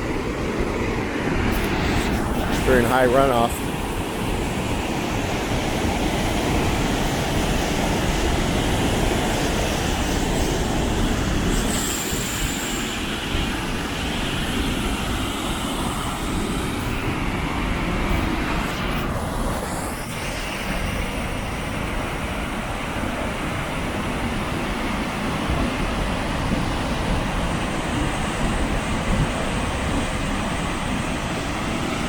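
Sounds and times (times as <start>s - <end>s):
water rushing over a dam: 0.0s - 32.0s.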